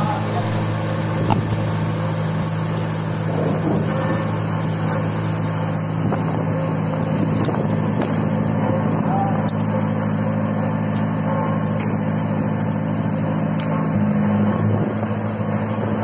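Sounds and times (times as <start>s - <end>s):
boom lift engine running: 0.0s - 16.0s.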